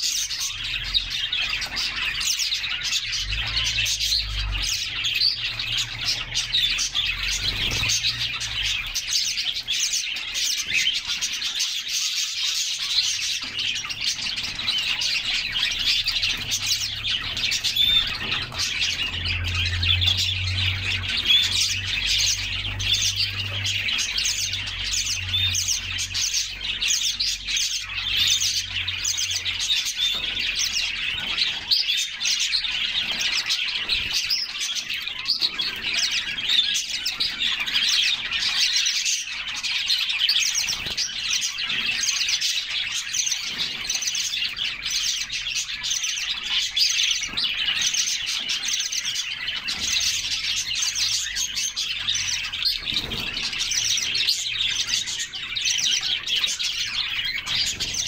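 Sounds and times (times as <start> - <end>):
canaries singing: 0.0 - 58.0.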